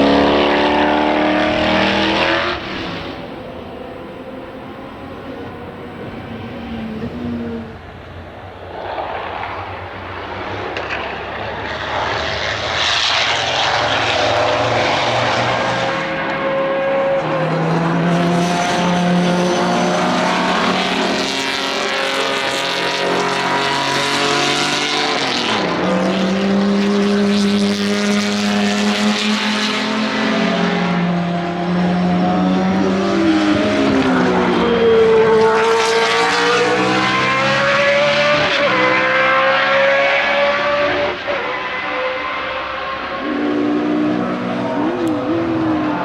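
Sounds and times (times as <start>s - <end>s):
racing car engines: 0.0s - 46.0s.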